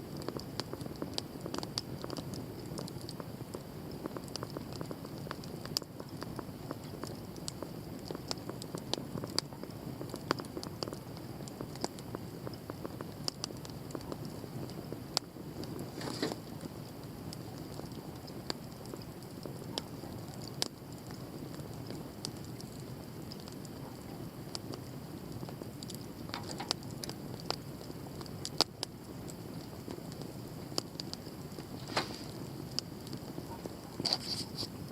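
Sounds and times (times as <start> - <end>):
campfire crackling and popping: 0.0 - 34.9
low rush of flames: 0.0 - 34.9.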